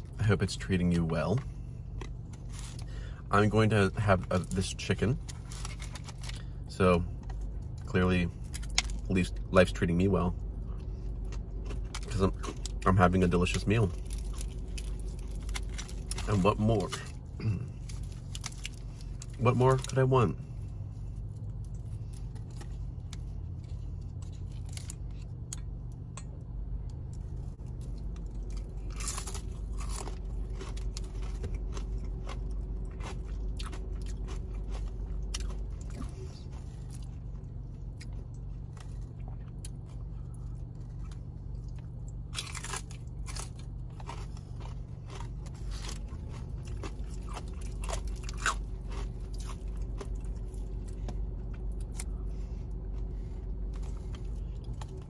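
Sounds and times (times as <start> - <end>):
crunching fried chicken: 0.0 - 55.0
steady low hum: 0.0 - 55.0.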